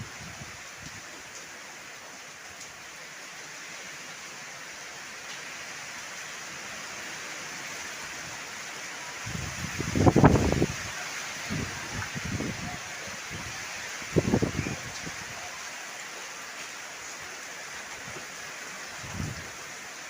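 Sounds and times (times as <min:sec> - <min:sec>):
heavy rain hiss: 0:00.0 - 0:20.0.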